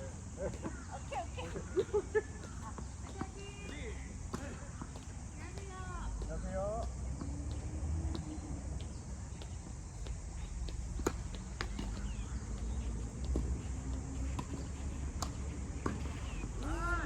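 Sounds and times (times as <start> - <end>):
tennis balls hitting and bouncing: 0.2 - 17.0.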